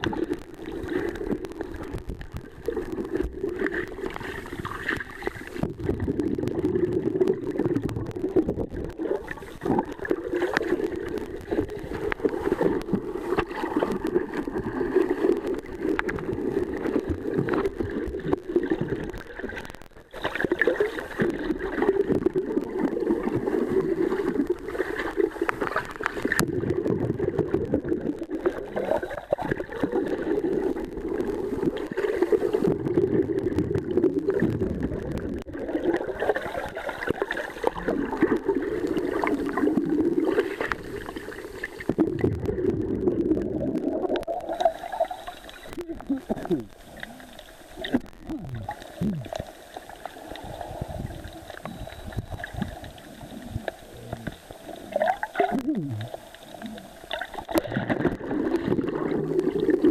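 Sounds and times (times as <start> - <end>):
muffled underwater rushing: 0.0 - 59.9.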